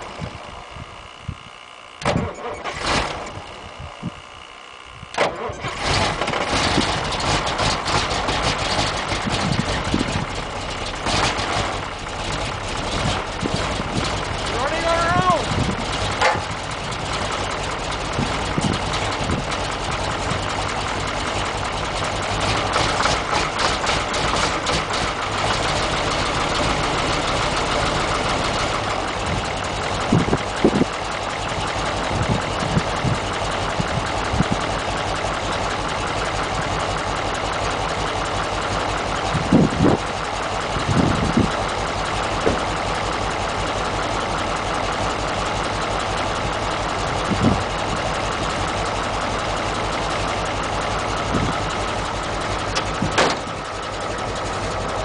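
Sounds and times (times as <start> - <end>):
diesel engine idling: 0.0 - 55.0
engine knocks: 5.1 - 55.0.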